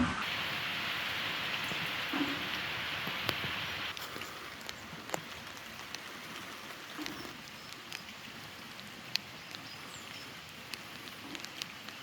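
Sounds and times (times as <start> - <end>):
light rain hissing: 0.0 - 12.0
raindrops ticking on surfaces: 0.2 - 12.0.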